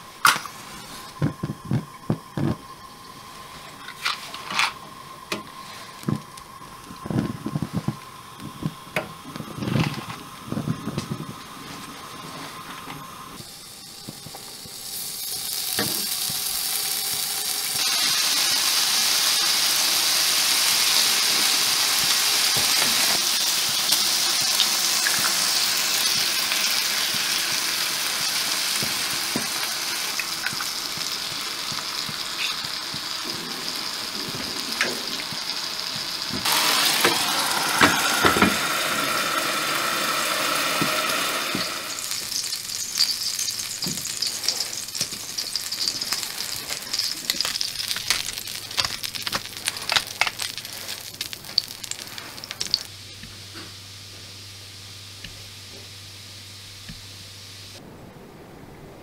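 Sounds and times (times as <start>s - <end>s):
bacon and eggs sizzling in pan: 0.0s - 53.2s.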